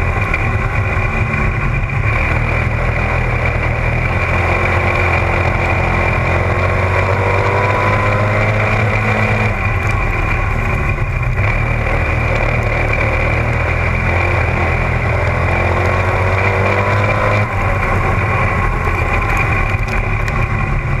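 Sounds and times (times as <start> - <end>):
race car engine running: 0.0 - 21.0.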